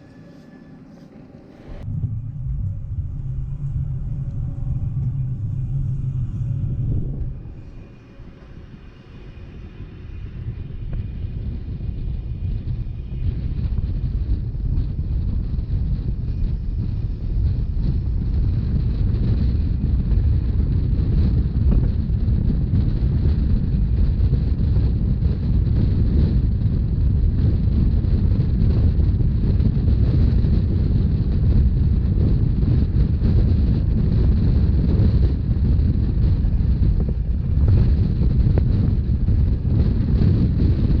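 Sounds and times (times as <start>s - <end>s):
train rumbling: 0.0s - 41.0s
wind buffeting microphone: 0.0s - 41.0s.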